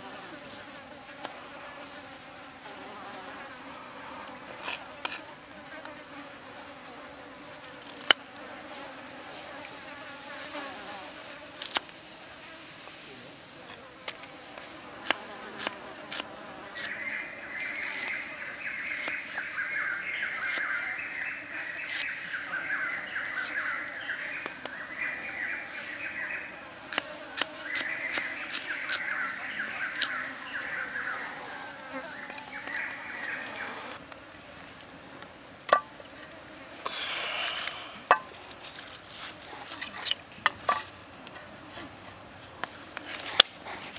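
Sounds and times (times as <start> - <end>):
insects buzzing: 0.0 - 43.9.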